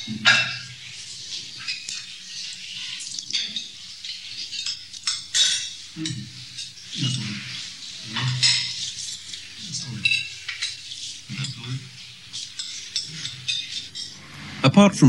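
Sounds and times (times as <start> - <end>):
spoons clinking against bowls: 0.0 - 14.2.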